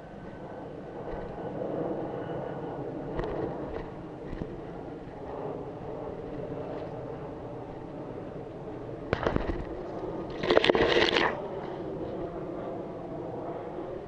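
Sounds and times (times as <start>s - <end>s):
steady outdoor rushing noise: 0.0s - 14.0s.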